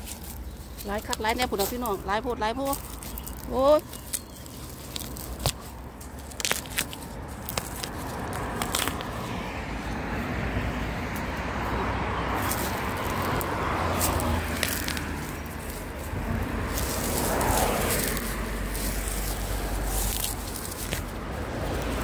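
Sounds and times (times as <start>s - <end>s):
dry grass crackling: 0.0s - 22.0s
rushing noise with low rumble: 4.0s - 22.0s.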